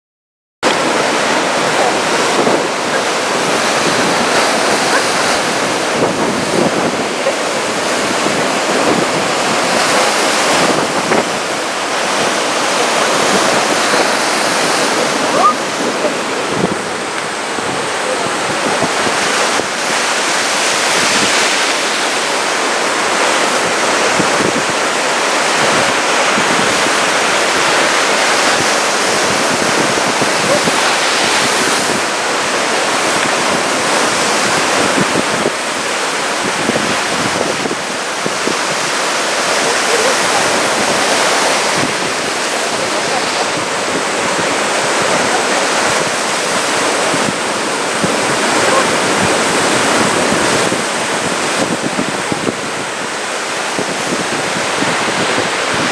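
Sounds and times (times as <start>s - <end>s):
ocean waves breaking: 0.6s - 55.9s.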